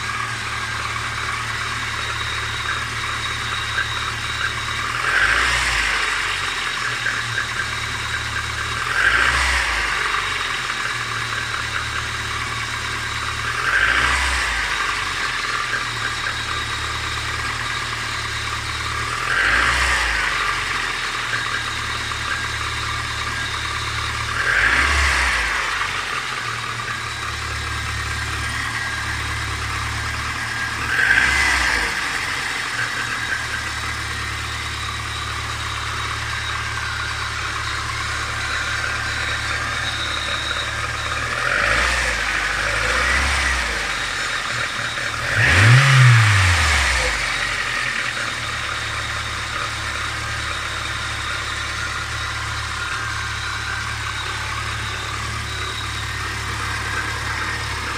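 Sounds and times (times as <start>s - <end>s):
car engine knocking: 0.0s - 57.9s
engine revving: 0.0s - 57.9s.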